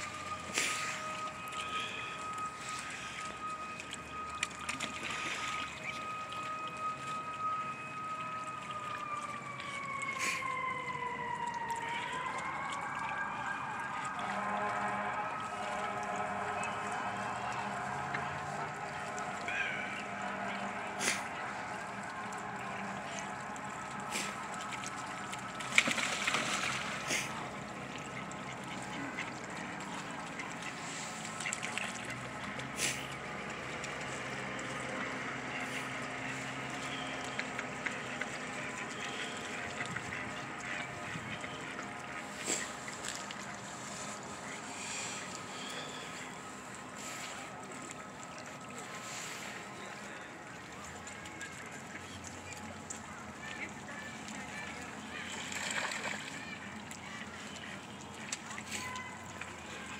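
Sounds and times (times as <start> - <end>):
siren wailing: 0.0 - 59.9.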